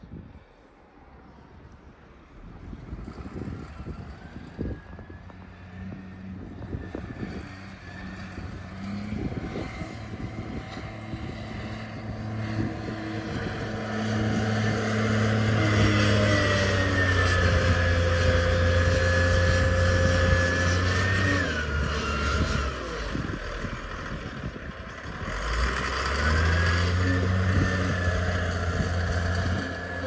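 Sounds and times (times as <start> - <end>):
engine running with high whine: 1.0 - 30.0.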